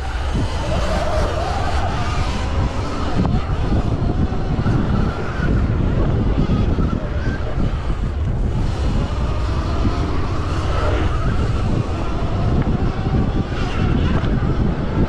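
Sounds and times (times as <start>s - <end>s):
electric motor whine: 0.0s - 15.0s
wind buffeting microphone: 0.0s - 15.0s.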